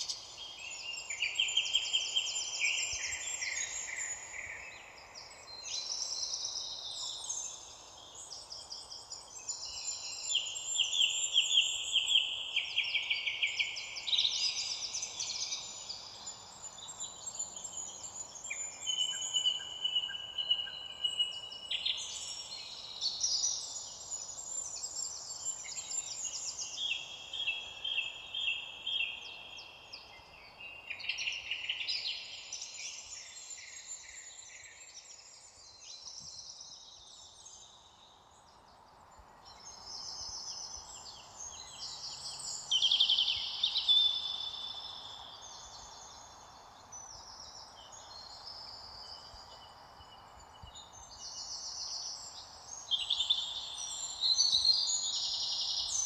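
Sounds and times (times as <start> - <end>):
faint steady background hiss: 0.0 - 56.0
songbirds trilling and twittering: 0.0 - 56.0.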